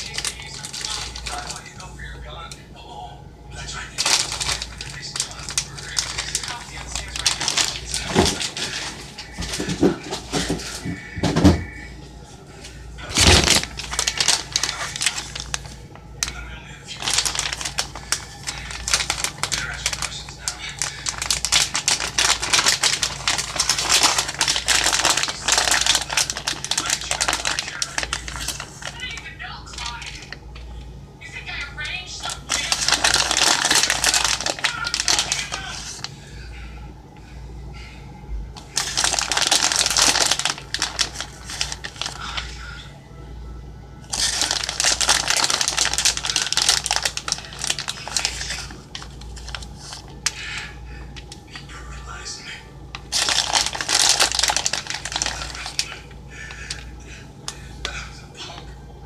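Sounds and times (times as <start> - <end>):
plastic bag crinkling: 0.0 - 2.2, 3.5 - 11.8, 13.0 - 30.8, 31.4 - 36.2, 38.6 - 42.8, 44.0 - 51.7, 52.8 - 57.0.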